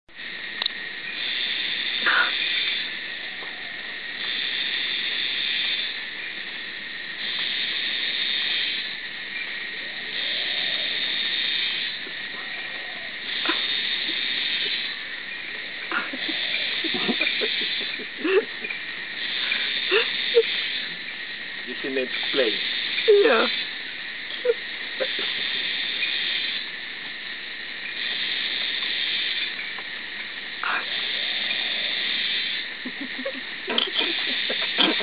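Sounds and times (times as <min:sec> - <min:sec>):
insects buzzing: 0:00.1 - 0:35.0
steady high insect trill: 0:00.1 - 0:35.0.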